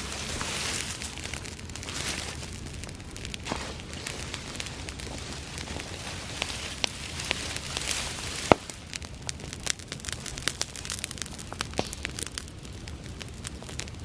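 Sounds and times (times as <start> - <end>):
fire crackling and popping: 0.0 - 14.0
grass fire rushing flame: 0.0 - 14.0.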